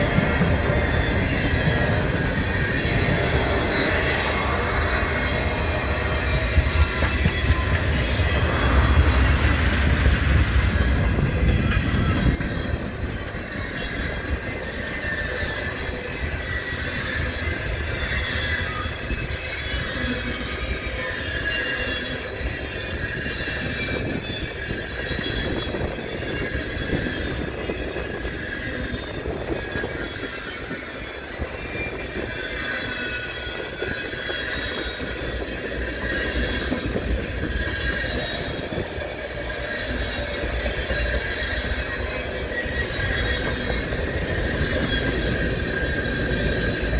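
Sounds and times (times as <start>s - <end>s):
train rumble: 0.0s - 46.9s
train wheels squealing: 0.0s - 46.9s.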